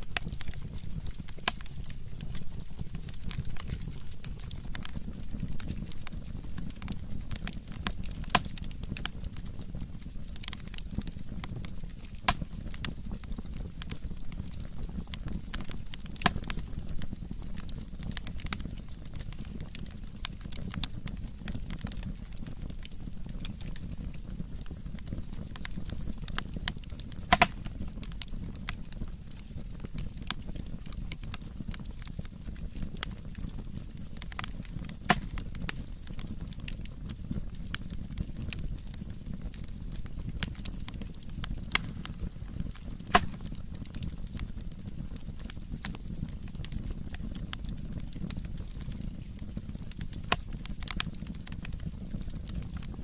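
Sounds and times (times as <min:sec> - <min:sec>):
firewood crackling and popping: 0:00.0 - 0:53.0.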